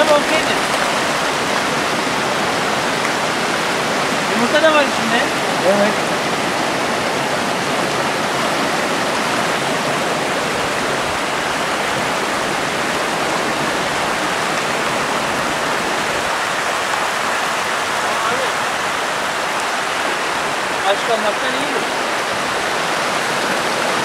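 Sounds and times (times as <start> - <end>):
stream water rushing over rocks: 0.0 - 24.0.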